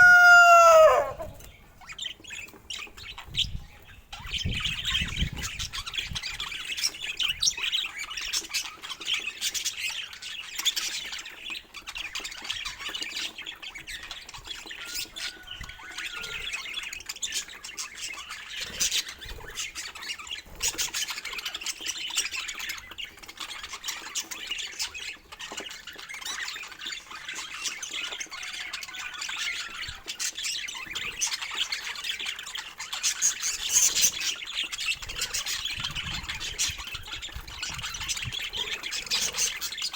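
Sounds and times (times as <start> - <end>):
budgerigar chatter: 0.0 - 39.9.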